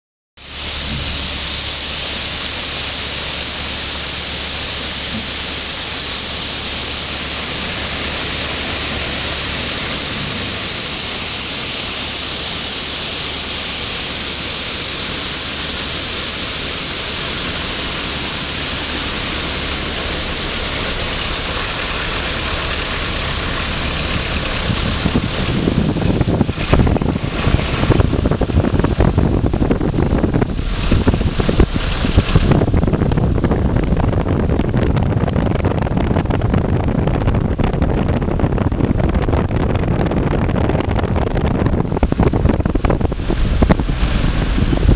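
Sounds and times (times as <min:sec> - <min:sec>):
waterfall rushing: 0:00.4 - 0:34.9, 0:41.1 - 0:44.9
wind buffeting microphone: 0:00.5 - 0:44.9.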